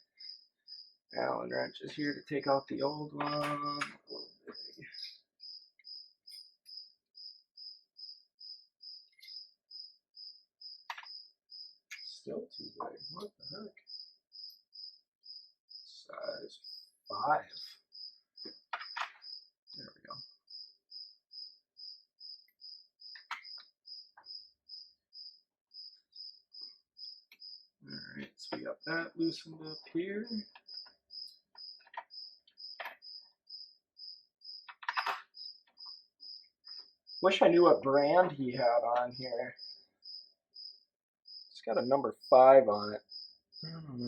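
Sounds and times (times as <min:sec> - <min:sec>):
cricket chirping: 0:00.0 - 0:44.0.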